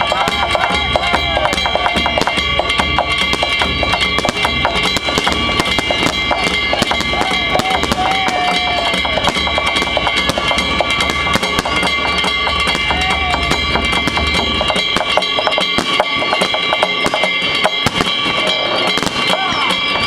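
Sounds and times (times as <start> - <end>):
high ringing tones: 0.0 - 20.0
sharp bangs and cracks: 0.0 - 20.0
steady drum beat: 0.0 - 20.0.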